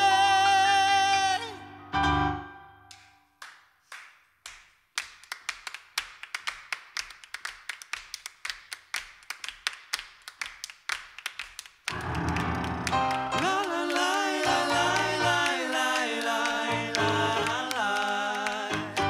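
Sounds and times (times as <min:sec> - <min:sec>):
people clapping in rhythm: 0:02.9 - 0:19.0.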